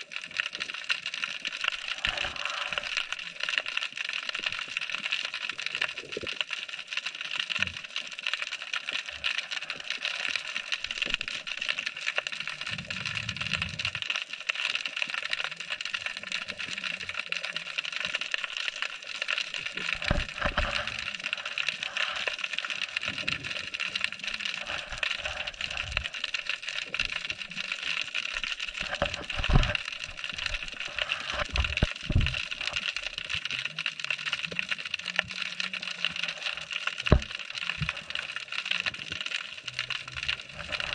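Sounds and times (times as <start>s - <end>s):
snapping shrimp crackle: 0.0s - 40.9s.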